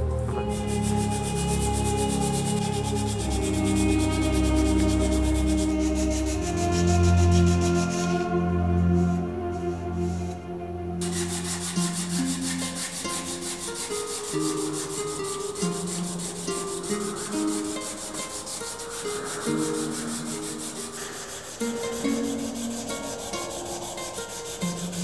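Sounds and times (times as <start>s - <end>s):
slow background music: 0.0s - 25.0s
sandpaper rubbing back and forth: 0.3s - 8.4s, 11.0s - 25.0s.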